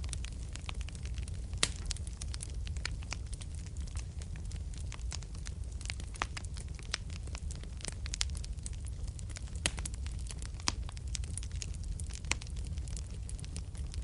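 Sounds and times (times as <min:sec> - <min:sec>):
fireplace fire crackling: 0:00.0 - 0:14.0
low rumble of burning: 0:00.0 - 0:14.0.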